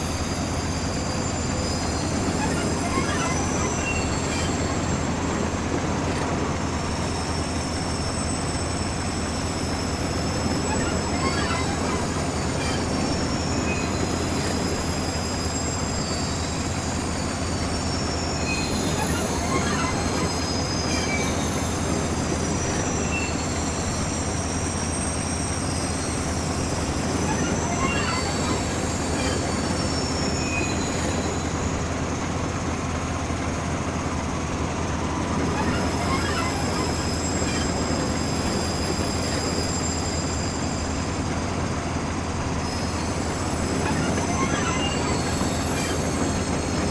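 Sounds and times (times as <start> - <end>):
train rumbling on rails: 0.0 - 46.9
wheels squealing: 0.0 - 46.9.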